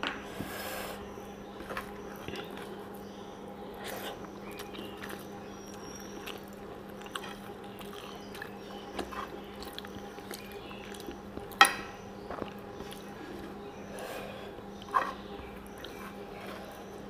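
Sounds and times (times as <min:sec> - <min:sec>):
fingers squishing rice and curry: 0:01.0 - 0:17.0
wet chewing: 0:01.3 - 0:17.0.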